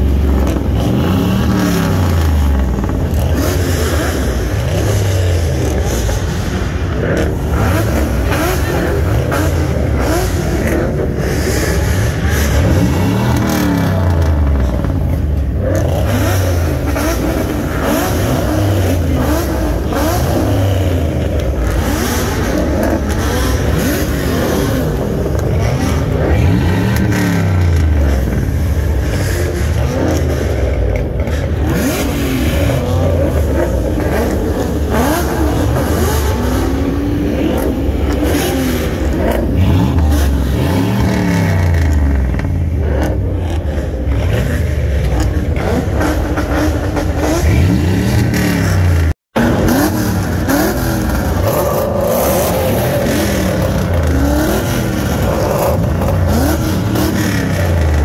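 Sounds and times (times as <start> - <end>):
car engines revving: 0.0 - 58.0
din of running engines: 0.0 - 58.0.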